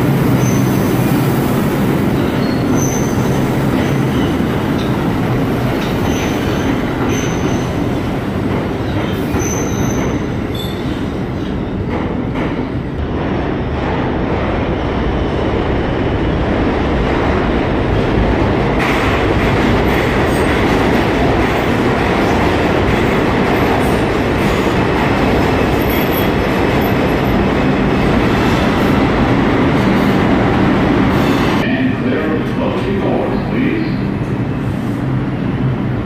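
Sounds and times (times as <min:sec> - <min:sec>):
subway train wheels rumbling: 0:00.0 - 0:36.0.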